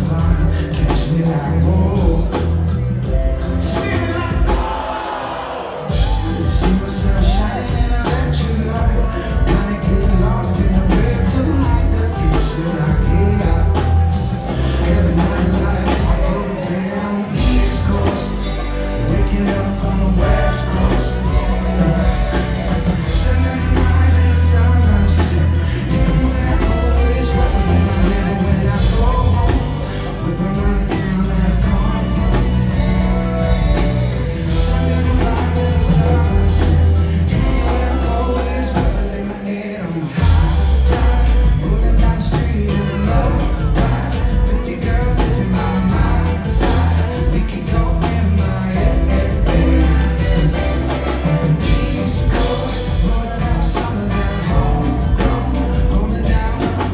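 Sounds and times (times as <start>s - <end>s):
heavy bass line: 0.0s - 56.9s
live reggae band: 0.0s - 56.9s
person singing: 0.0s - 56.9s.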